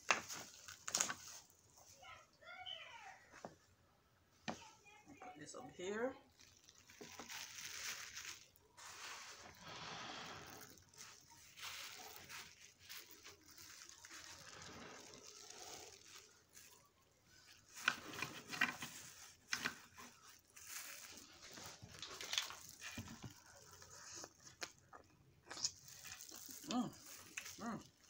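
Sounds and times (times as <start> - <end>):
wet crackling and rustling: 0.0 - 2.2, 6.2 - 28.0.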